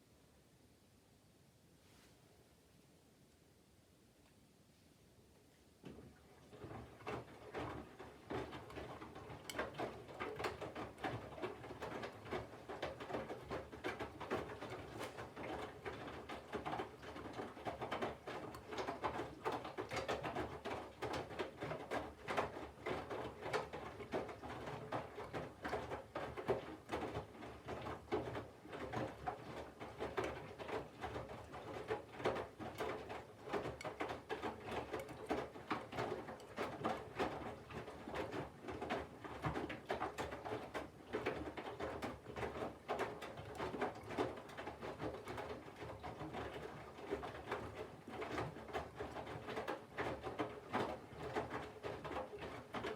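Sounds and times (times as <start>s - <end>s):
water sloshing in washing machine: 6.0s - 52.9s.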